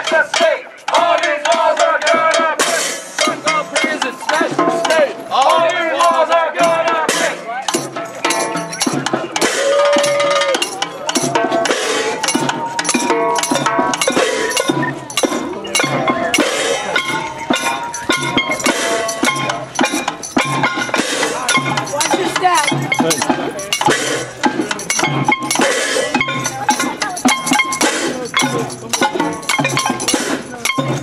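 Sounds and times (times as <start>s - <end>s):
clanking noisemakers and percussion: 0.0s - 31.0s
voices shouting: 0.0s - 31.0s.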